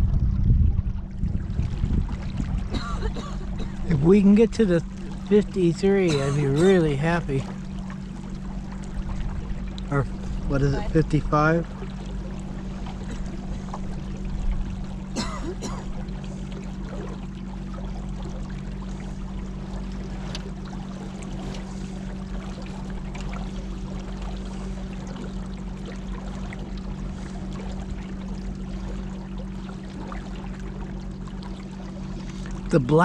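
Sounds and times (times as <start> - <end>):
steady low hum: 0.0 - 33.0
water splashing along kayak hull: 0.0 - 33.0.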